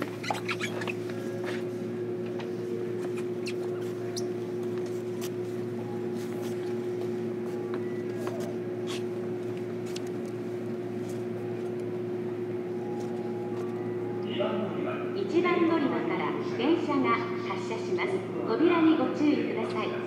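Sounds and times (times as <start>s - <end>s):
train electrical hum: 0.0s - 20.0s.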